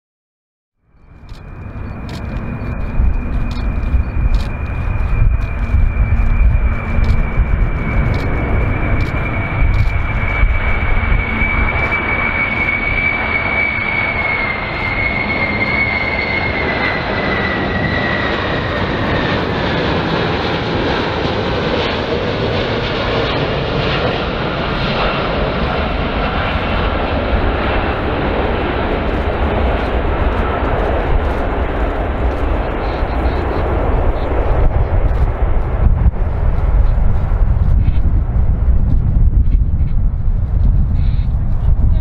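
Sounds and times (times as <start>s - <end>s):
jet engines rumbling and whining: 0.8s - 42.0s.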